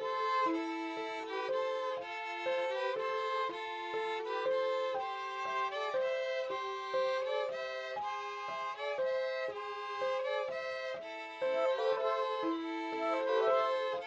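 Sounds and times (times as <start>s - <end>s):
violin-led background music: 0.0s - 14.0s.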